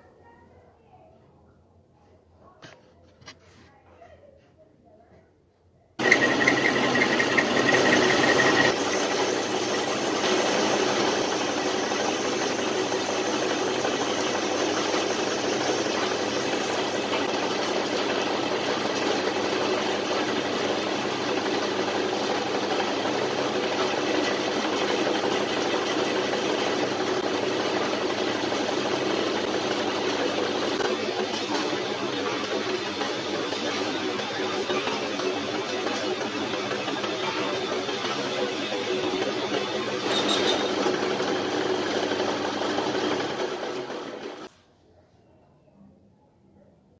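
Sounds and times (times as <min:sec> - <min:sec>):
lathe drilling metal: 0:06.0 - 0:44.5.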